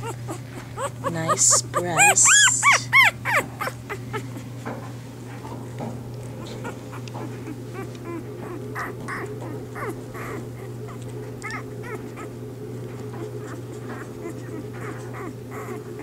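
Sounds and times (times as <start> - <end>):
puppies squeaking: 0.0 - 4.6, 6.3 - 12.4, 13.0 - 16.0
steady low hum: 0.0 - 16.0.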